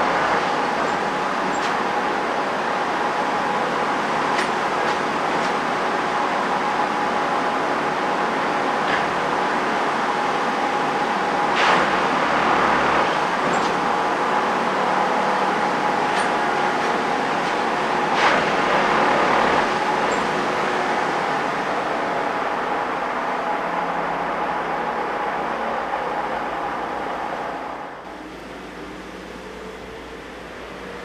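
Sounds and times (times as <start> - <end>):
diesel engine and hydraulics whining: 0.0 - 31.0.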